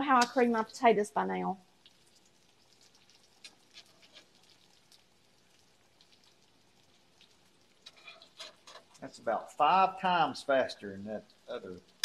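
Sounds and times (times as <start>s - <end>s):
okra sizzling in oil: 0.0s - 12.0s
oil popping and crackling: 1.6s - 12.0s.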